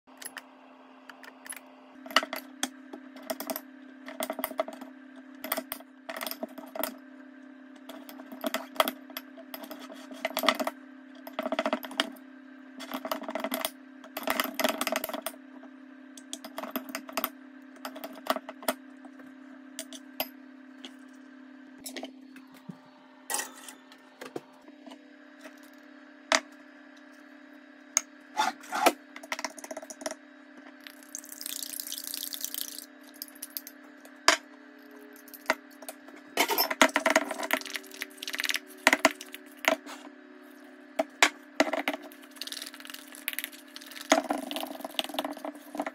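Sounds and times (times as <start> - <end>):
steady low hum: 0.1 - 45.9.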